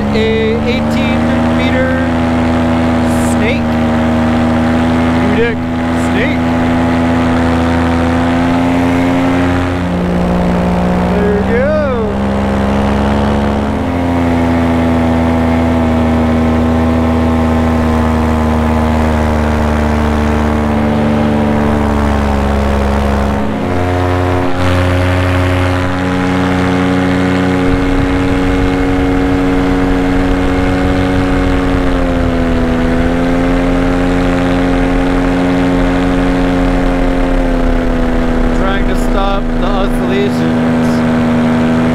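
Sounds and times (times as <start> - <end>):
paramotor engine and propeller: 0.0 - 41.9.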